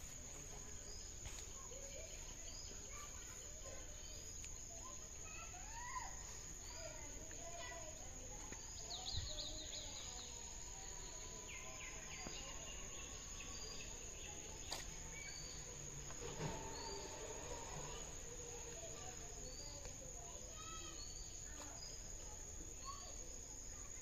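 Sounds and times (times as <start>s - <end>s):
crickets droning: 0.0s - 24.0s.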